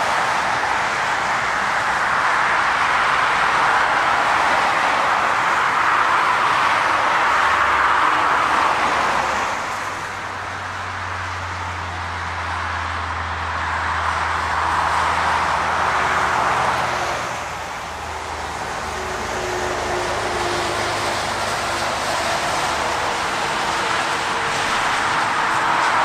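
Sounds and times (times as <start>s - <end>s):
rush of tyres from passing vehicles: 0.0s - 26.0s.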